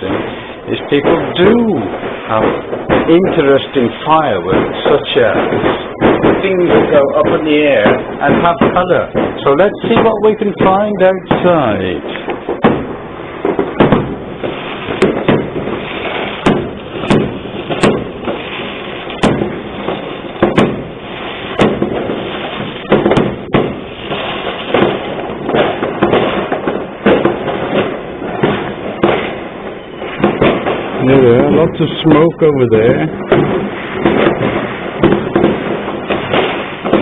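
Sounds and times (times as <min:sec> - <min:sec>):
firecrackers banging: 0:00.0 - 0:37.0
fireworks crackling: 0:00.0 - 0:37.0.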